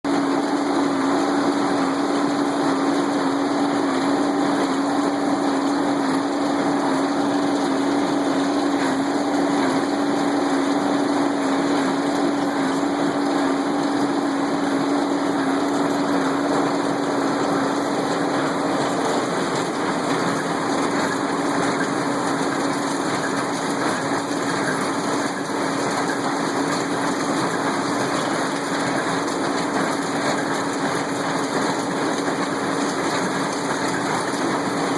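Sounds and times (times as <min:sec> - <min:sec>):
baler machinery noise: 0:00.1 - 0:34.9
tractor engine running: 0:00.1 - 0:34.9.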